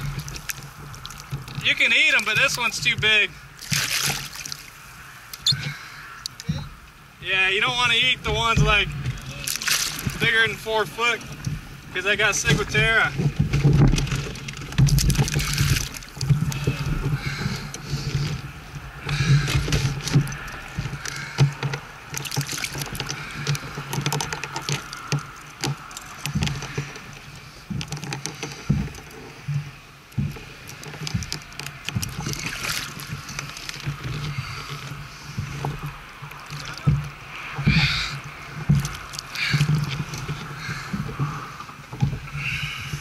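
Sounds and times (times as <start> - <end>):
water splashing and sloshing: 0.0 - 43.0.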